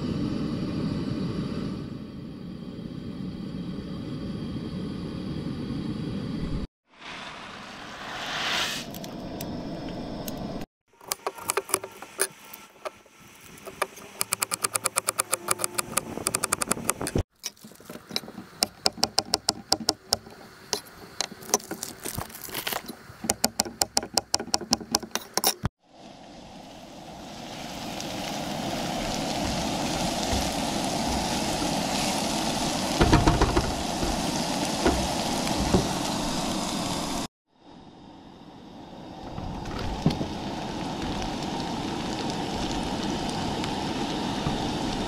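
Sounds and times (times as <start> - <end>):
camp stove burner rushing: 7.0 - 37.3, 37.9 - 45.0.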